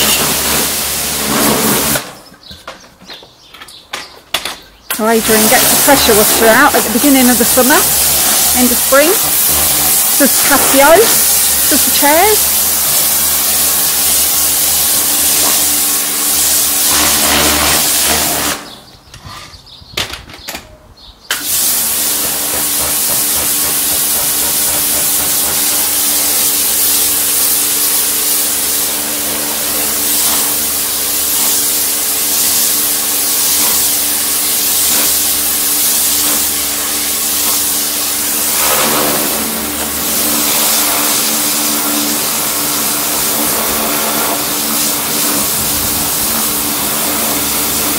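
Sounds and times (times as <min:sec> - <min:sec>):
high-pressure spray hissing: 0:00.0 - 0:02.2, 0:05.0 - 0:18.7, 0:21.3 - 0:47.9
pressure washer motor hum: 0:00.0 - 0:02.2, 0:04.9 - 0:18.8, 0:21.3 - 0:47.9.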